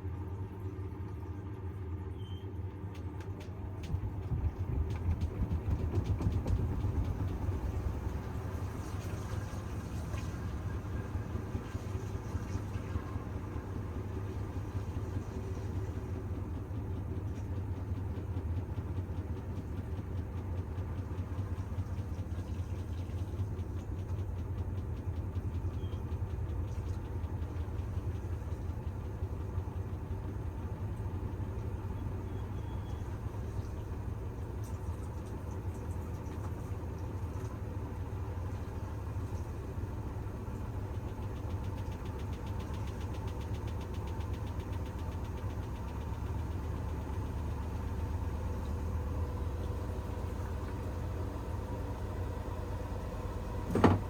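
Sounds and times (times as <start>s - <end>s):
washing machine drum spinning: 2.1s - 54.0s.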